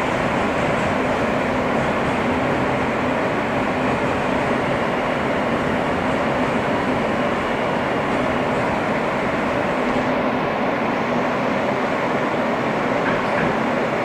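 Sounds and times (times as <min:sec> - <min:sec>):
subway car ventilation hum: 0:00.0 - 0:14.0.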